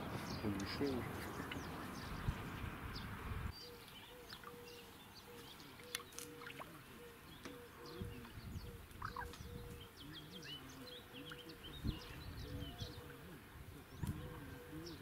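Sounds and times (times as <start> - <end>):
birds chirping: 0.0 - 15.0
low repeating bird call: 0.0 - 15.0.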